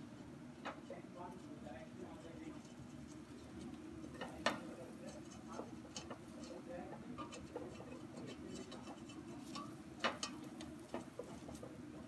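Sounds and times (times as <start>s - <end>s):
utensil stirring vegetables in pan: 0.1s - 12.0s.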